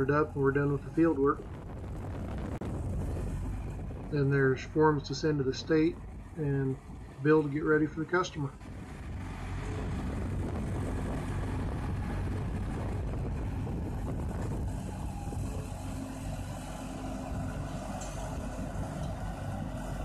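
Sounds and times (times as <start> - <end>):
trencher engine running: 0.0 - 20.0.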